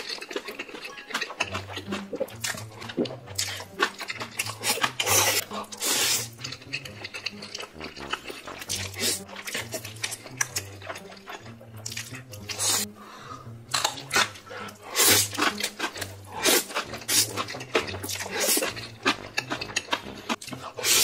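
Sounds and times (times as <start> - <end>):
noodles being slurped: 0.0 - 21.0
wet chewing: 0.0 - 21.0.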